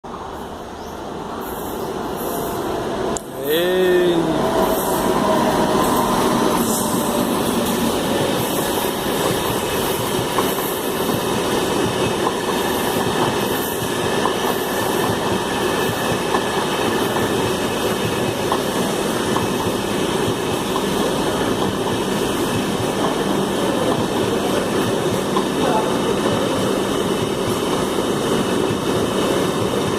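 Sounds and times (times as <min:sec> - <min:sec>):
train wheels rumbling on track: 0:00.1 - 0:29.9.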